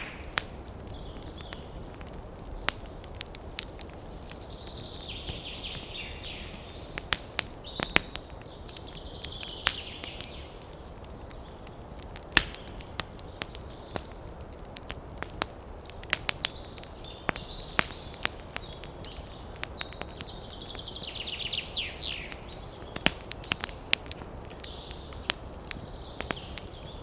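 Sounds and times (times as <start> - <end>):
campfire crackling and popping: 0.0 - 27.0
birds calling: 2.5 - 15.4, 16.0 - 27.0.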